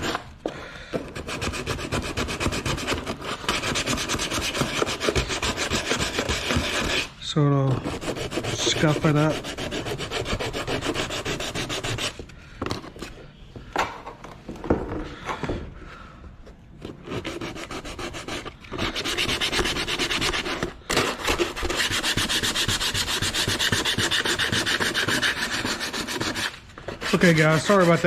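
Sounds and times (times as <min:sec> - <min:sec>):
sandpaper scrubbing plastic: 0:00.0 - 0:00.4, 0:01.1 - 0:12.2, 0:16.9 - 0:28.0
sharp knocks and scrapes: 0:00.0 - 0:15.8, 0:16.4 - 0:28.0.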